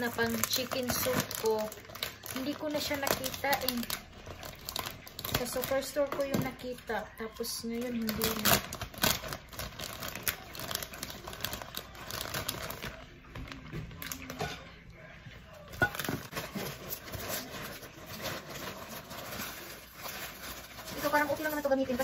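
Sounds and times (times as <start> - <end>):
plastic bag rustling: 0.0 - 14.7, 15.7 - 22.0.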